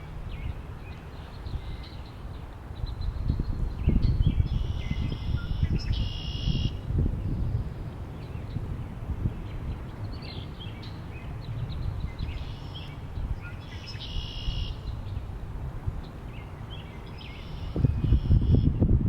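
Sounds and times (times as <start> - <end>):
songbirds chirping: 0.0 - 18.7
wind buffeting microphone: 0.0 - 19.0.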